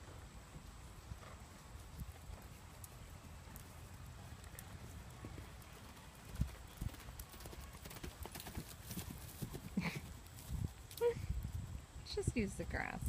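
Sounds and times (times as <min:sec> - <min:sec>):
horse hoofbeats on sand: 0:00.0 - 0:10.9.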